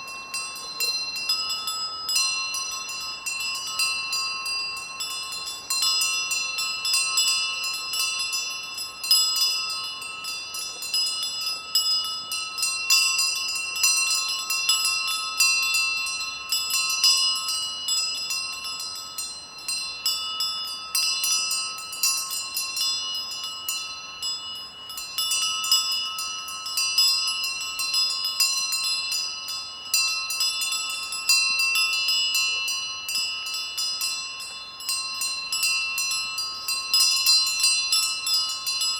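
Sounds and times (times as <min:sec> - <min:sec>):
sheep bells clanking: 0:00.0 - 0:38.9.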